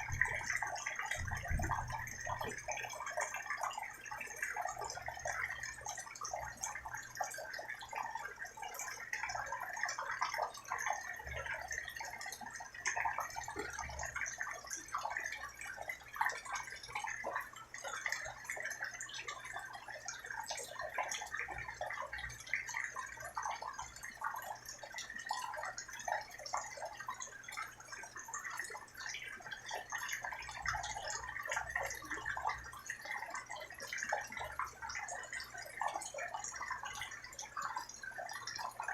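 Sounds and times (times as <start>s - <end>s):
rain patter: 0.0s - 38.9s.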